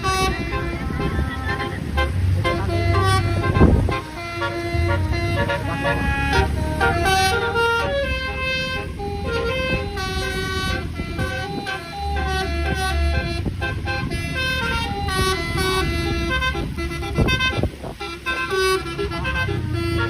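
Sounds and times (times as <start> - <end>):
bus engine rumble: 0.0 - 20.0
multi-tone bus horn melody: 0.0 - 20.0.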